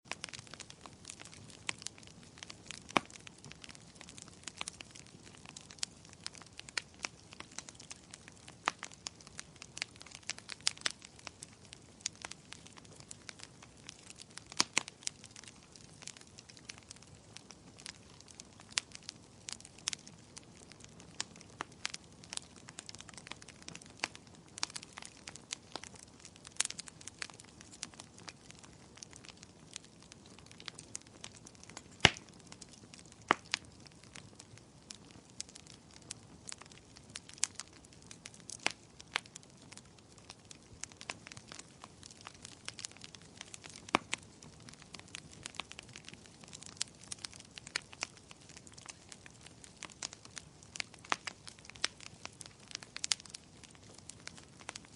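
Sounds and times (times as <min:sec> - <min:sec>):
wood fire crackling: 0:00.0 - 0:54.9
firewood popping and snapping: 0:00.1 - 0:54.9.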